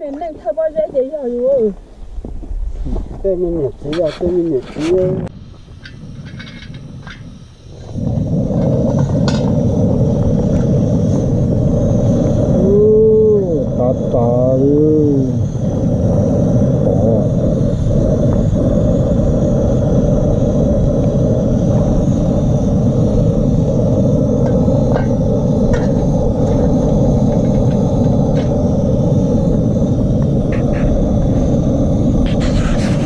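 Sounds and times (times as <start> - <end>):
loud low rumble: 2.0 - 33.0.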